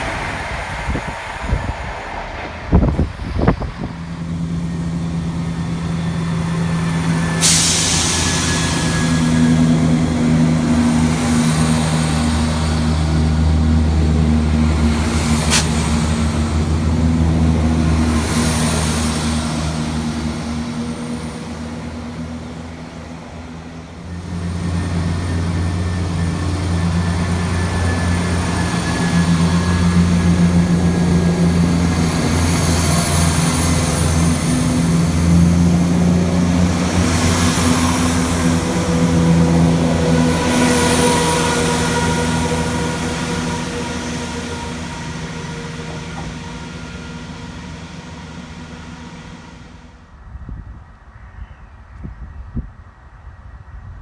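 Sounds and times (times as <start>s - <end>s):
diesel train engine drone: 0.0s - 54.0s.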